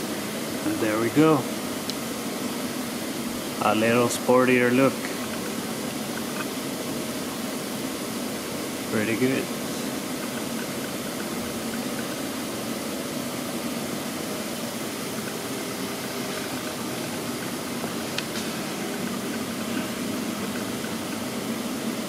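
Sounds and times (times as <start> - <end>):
ventilation hum and hiss: 0.0 - 22.0.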